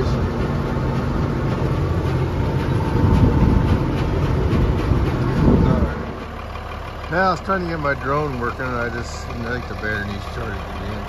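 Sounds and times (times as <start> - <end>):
cab rattling: 0.0 - 11.0
tractor diesel engine: 0.0 - 11.0.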